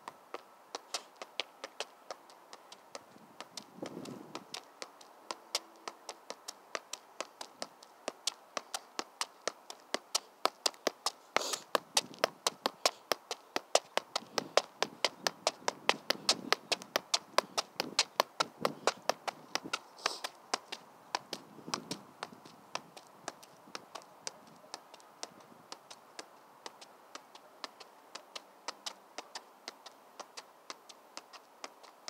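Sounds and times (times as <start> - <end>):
shoe tapping soccer ball: 0.0 - 32.0.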